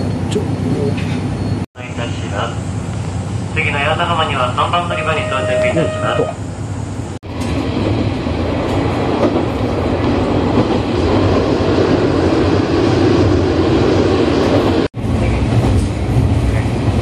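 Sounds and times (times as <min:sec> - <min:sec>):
railcar engine and wheels rumble: 0:00.0 - 0:17.0.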